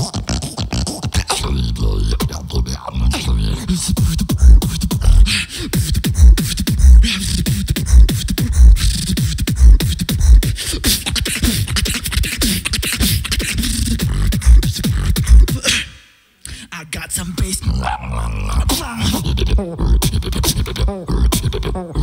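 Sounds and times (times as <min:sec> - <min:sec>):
beatboxing into a microphone: 0:00.0 - 0:22.0.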